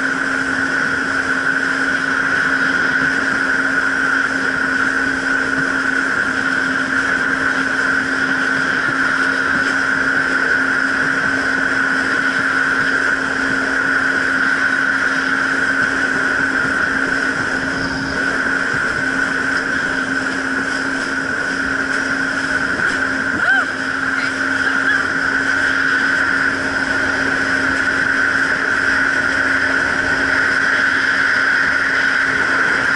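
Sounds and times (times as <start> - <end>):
jet ski engine running: 0.0 - 32.9
water rushing: 0.0 - 32.9
wind: 0.0 - 32.9.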